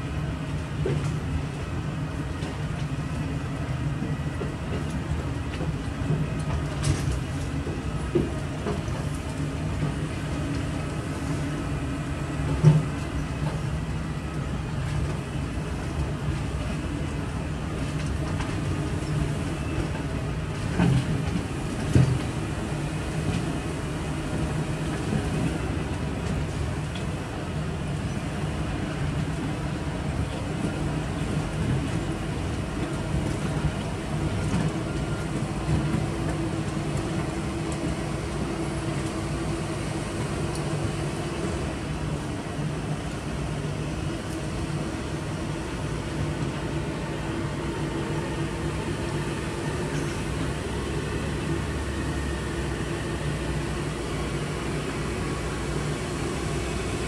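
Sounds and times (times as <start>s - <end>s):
loud diesel drone: 0.0s - 57.0s.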